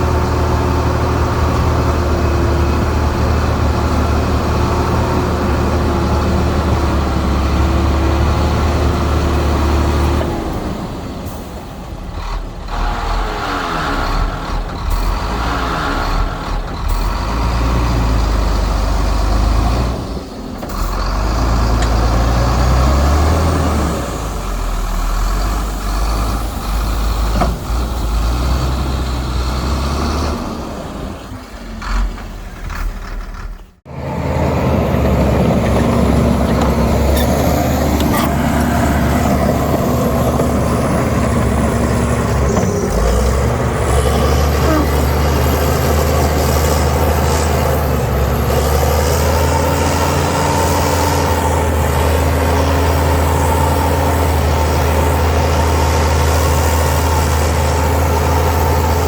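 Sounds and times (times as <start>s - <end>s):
heavy machinery engine drone: 0.0s - 59.0s.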